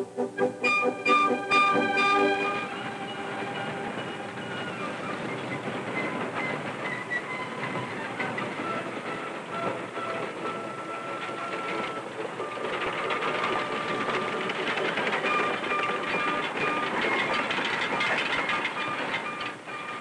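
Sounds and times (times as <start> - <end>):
train wheels clattering on rails: 0.0 - 20.0
high wheel squeal: 0.3 - 20.0.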